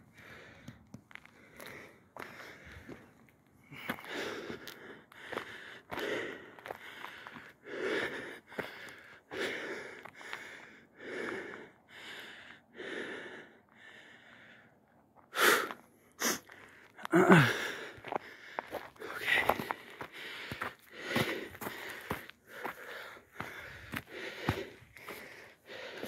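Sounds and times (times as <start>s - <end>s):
person breathing heavily: 0.1s - 26.0s.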